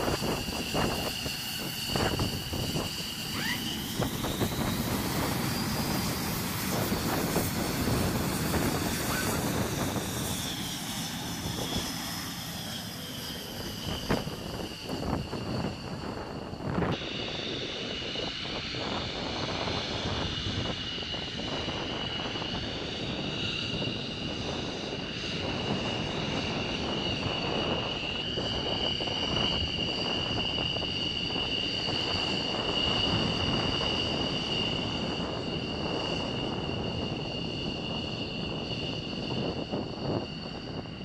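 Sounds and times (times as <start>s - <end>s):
high jet whine: 0.0s - 41.0s
jet engines rushing: 0.0s - 41.0s.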